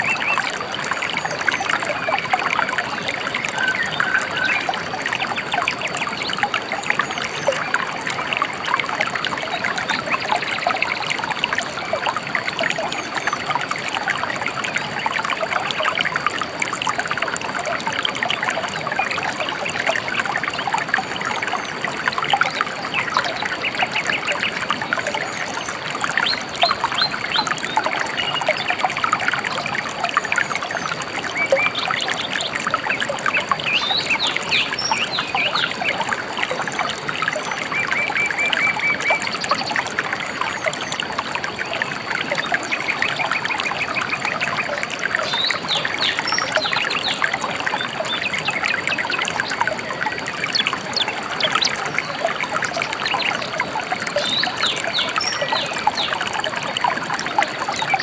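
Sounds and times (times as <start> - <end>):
river trickling: 0.0 - 58.0.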